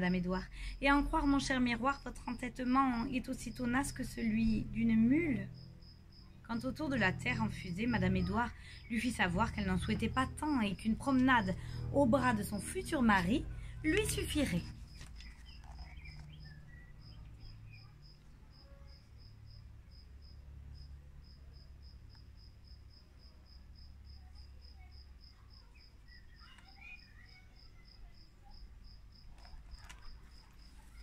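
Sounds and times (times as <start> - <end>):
faint low rumble: 0.0 - 25.9
cricket chirping: 1.2 - 31.0.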